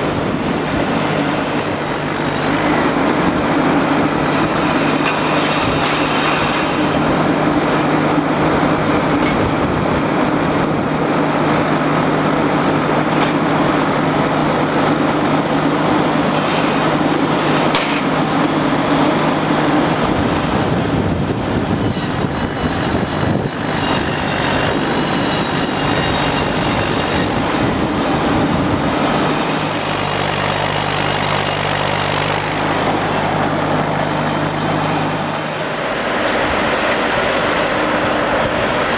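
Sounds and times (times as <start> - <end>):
high wavering saw whine: 0.0 - 38.9
sawmill engine drone: 0.0 - 38.9.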